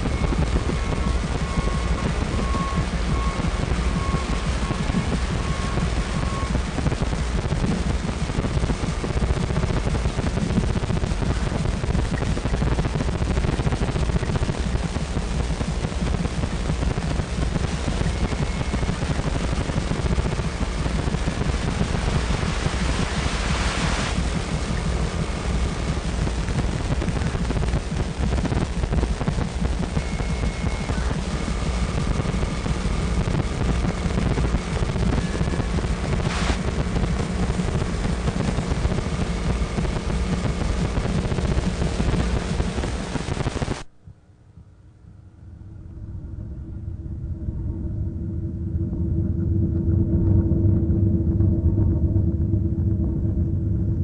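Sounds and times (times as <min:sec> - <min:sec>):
crackling rumble: 0:00.0 - 0:54.0.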